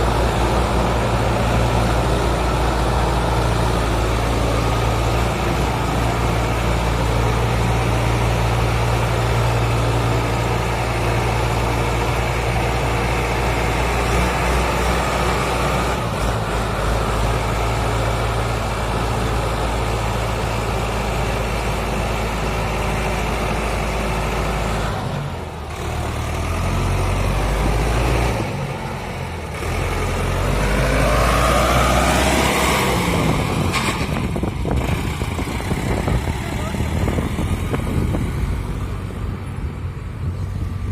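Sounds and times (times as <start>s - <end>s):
diesel tractor engine droning: 0.0s - 40.9s.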